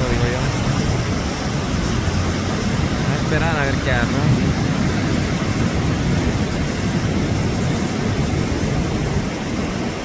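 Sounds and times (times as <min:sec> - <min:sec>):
surf rumbling: 0:00.0 - 0:10.0
wind: 0:00.0 - 0:10.0.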